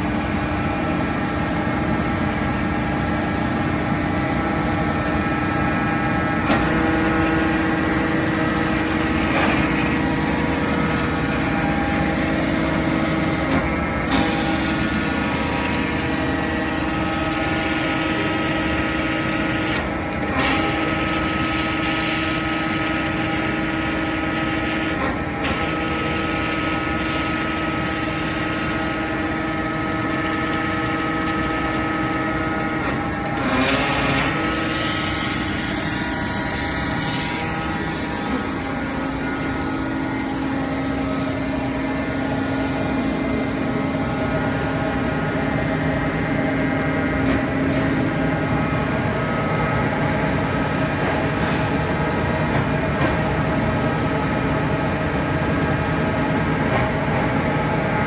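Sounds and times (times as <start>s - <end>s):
motor driving a pump humming: 0.0s - 58.0s.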